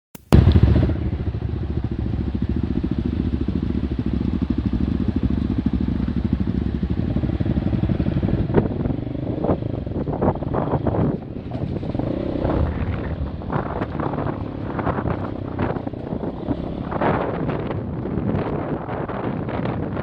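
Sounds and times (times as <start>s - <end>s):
dirt bike engine running: 0.2s - 20.0s.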